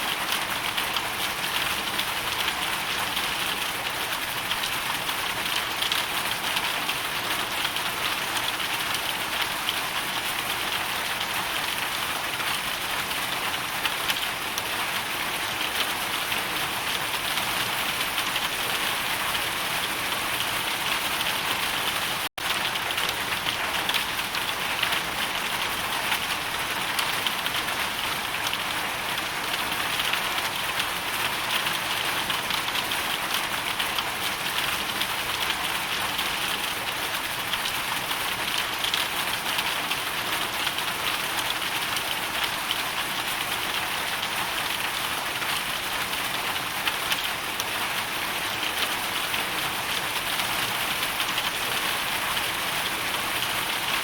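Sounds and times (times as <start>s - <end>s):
hail and rain falling: 0.0s - 54.0s.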